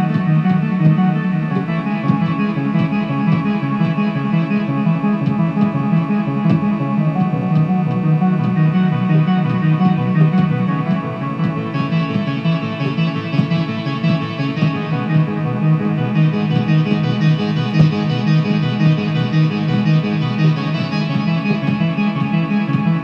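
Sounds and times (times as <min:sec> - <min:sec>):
synth ambient trance music: 0:00.0 - 0:23.0.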